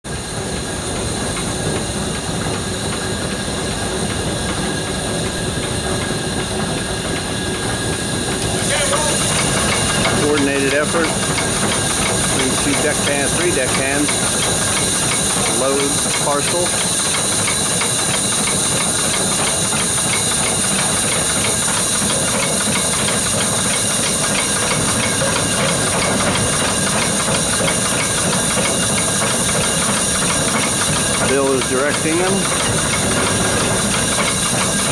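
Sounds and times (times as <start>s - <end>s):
steam winches clattering: 0.4s - 34.9s.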